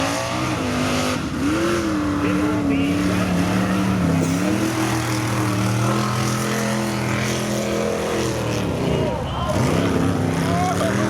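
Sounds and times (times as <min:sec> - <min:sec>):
off-road vehicle engine running hard: 0:00.0 - 0:11.0.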